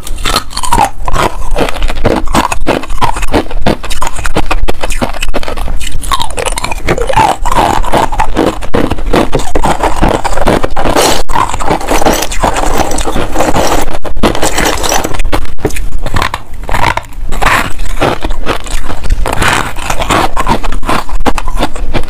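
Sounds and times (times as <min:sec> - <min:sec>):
crunching ice: 0:00.0 - 0:22.0
frost scraped by hand: 0:00.0 - 0:22.0.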